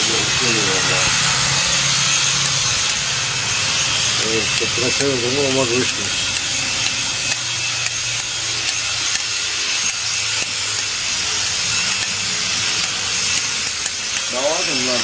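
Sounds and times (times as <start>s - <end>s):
shears snipping wool: 1.9s - 15.0s.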